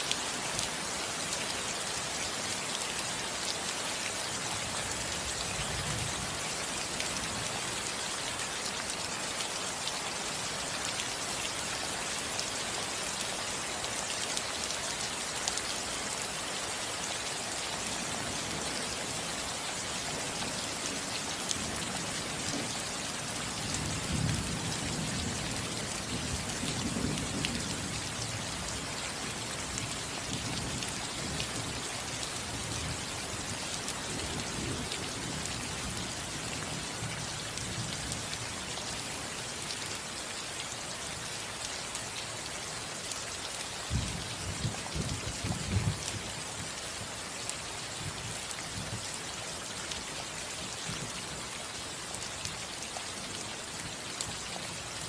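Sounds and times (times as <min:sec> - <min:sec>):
rain on a roof: 0:00.0 - 0:55.0.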